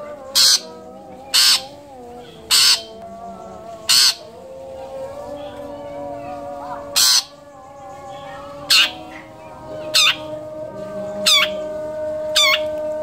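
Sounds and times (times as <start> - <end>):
bird harsh rasping calls: 0.0 - 11.7, 12.4 - 12.8
faint steady tones: 0.0 - 13.0.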